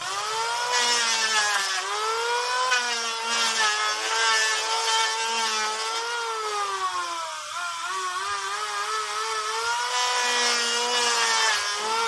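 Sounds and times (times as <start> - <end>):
electric planer motor whine: 0.0 - 12.0.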